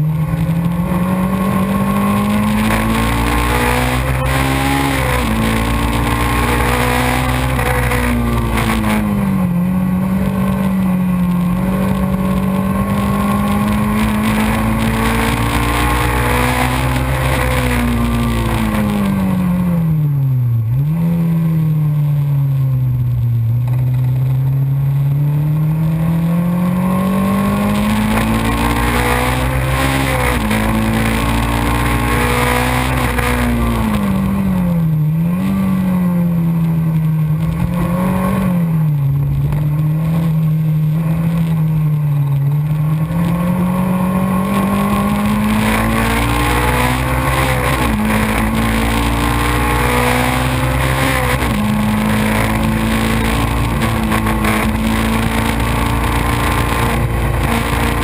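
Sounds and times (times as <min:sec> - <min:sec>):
race car engine running hard: 0:00.0 - 0:58.0
wind and road noise: 0:00.0 - 0:58.0.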